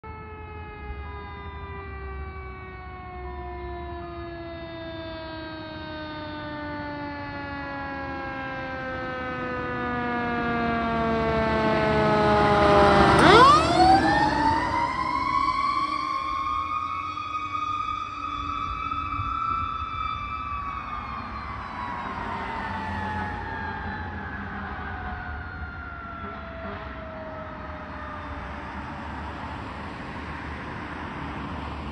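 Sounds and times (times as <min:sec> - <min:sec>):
fire truck siren wailing: 0:00.0 - 0:31.9.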